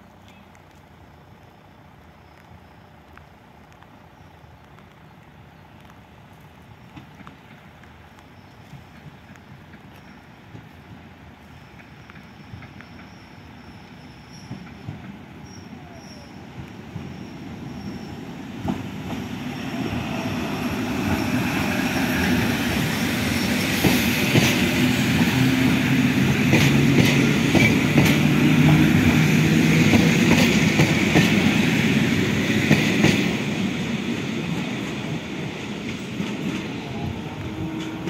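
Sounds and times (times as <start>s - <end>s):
passenger train passing: 0.0s - 38.0s.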